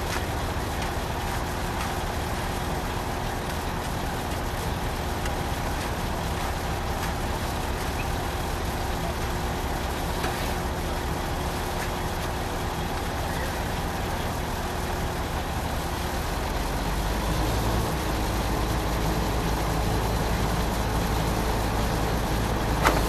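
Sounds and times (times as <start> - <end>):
pump truck machine drone: 0.0 - 23.0.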